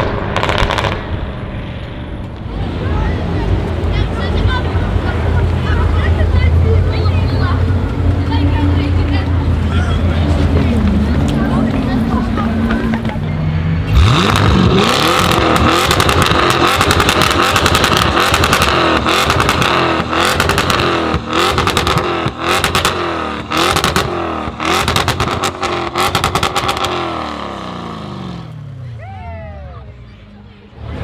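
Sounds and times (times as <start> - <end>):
exhaust crackles and pops: 0.0 - 28.6
car engine revving: 0.0 - 29.0, 29.8 - 31.0.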